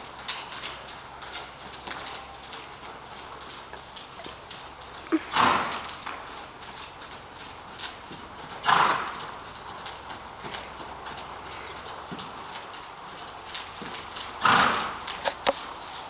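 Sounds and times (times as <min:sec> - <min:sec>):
hooves trotting on sand: 0:00.0 - 0:16.0.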